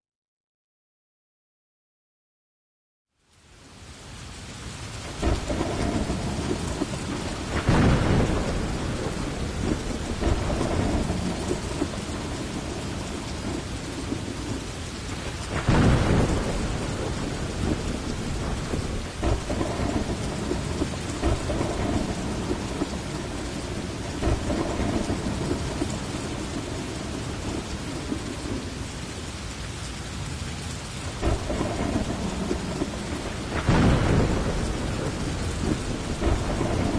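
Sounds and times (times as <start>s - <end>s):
heavy rain: 3.1s - 36.9s
thunder rolling: 5.1s - 29.1s, 30.9s - 36.9s.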